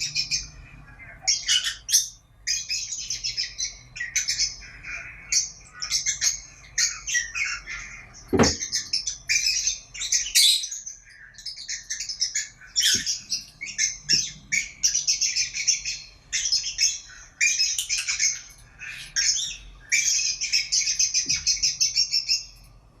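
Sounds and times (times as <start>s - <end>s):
parrots chirping and chattering: 0.0s - 23.0s.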